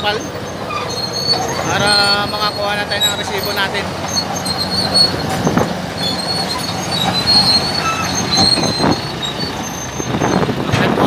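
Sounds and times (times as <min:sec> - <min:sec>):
high metallic squeals: 0:00.0 - 0:10.9
diesel truck idling: 0:00.0 - 0:11.0.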